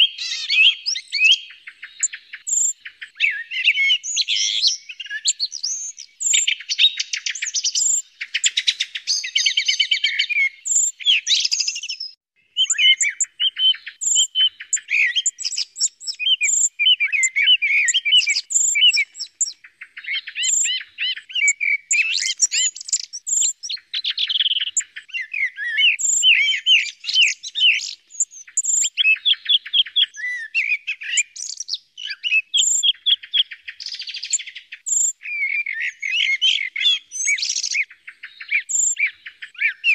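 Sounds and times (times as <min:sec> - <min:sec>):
birds whistling and trilling: 0:00.0 - 0:39.9.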